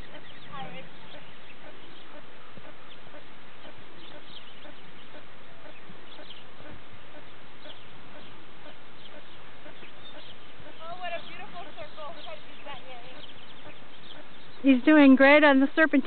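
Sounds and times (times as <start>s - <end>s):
bird chirps: 0.0s - 16.0s
outdoor background hiss: 0.0s - 16.0s.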